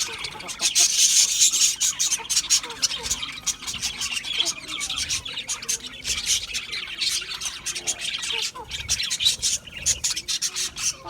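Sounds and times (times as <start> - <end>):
budgerigars chirping and chattering: 0.0 - 11.0.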